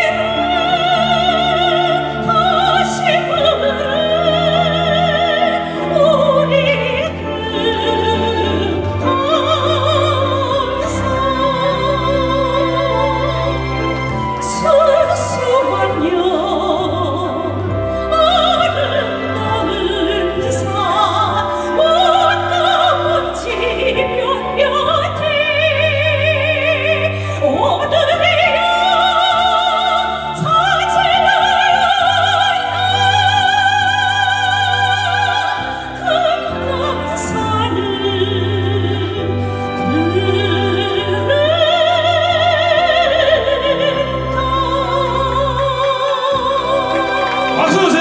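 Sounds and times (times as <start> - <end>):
instrumental accompaniment: 0.0 - 48.0
woman singing operatically: 0.0 - 48.0.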